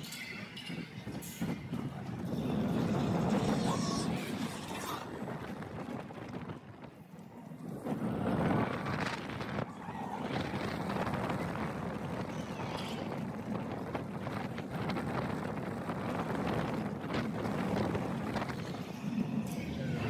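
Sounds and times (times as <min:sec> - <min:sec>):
roller coaster rumbling on track: 0:00.0 - 0:20.0
wind on microphone: 0:00.0 - 0:20.0.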